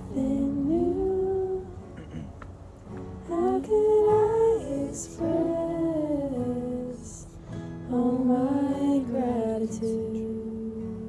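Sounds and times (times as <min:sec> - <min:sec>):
woman singing slow melody: 0:00.0 - 0:02.3, 0:03.2 - 0:11.0.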